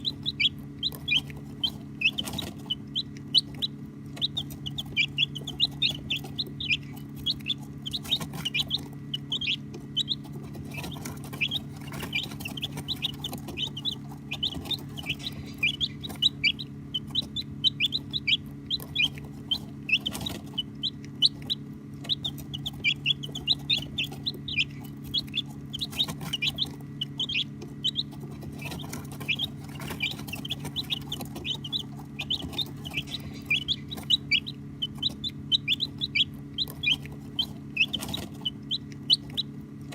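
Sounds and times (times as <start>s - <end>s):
baby chicks peeping: 0.0s - 39.9s
steady low hum: 0.0s - 39.9s.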